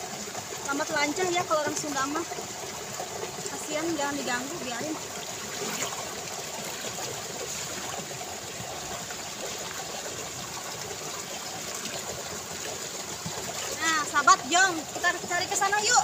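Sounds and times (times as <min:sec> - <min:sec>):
water trickling in a ditch: 0:00.0 - 0:16.0.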